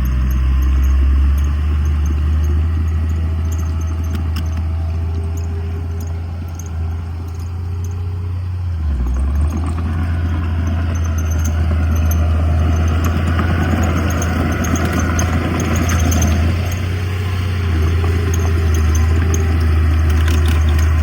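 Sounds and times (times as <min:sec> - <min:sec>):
diesel engine of heavy machinery: 0:00.0 - 0:21.0.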